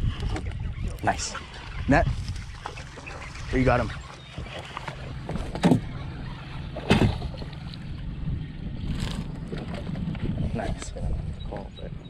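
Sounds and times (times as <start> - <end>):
boat motor hum: 0.0 - 12.0.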